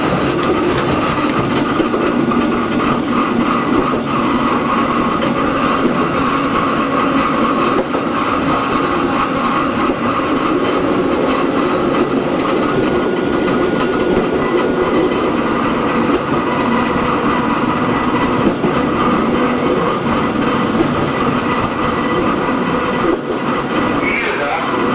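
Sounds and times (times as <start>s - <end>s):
rail-joint clatter: 0.0s - 24.9s
wheels running on rails: 0.0s - 24.9s.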